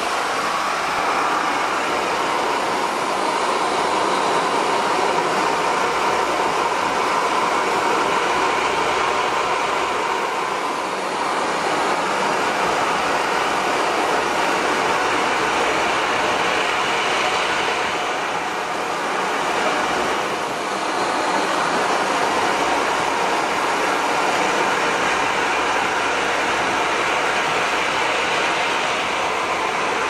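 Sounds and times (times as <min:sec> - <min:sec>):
small jet engine running: 0:00.0 - 0:30.0.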